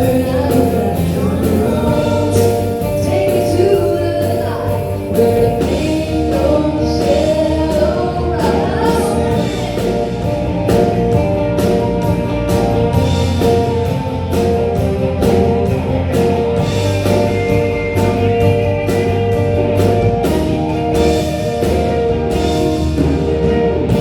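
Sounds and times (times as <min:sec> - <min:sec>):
country band playing: 0:00.0 - 0:24.0
guitar: 0:00.0 - 0:24.0
steady drum beat: 0:00.0 - 0:24.0.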